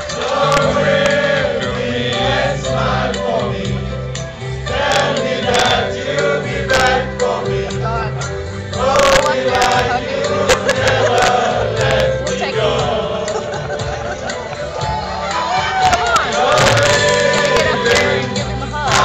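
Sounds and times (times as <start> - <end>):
men singing together: 0.0 - 14.8, 16.0 - 19.0
amplified backing track with bass: 0.0 - 19.0.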